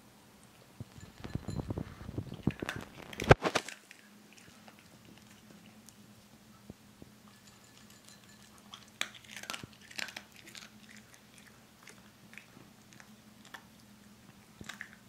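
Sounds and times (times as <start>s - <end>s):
dog crunching dry kibble: 0.9s - 6.1s, 7.3s - 15.0s.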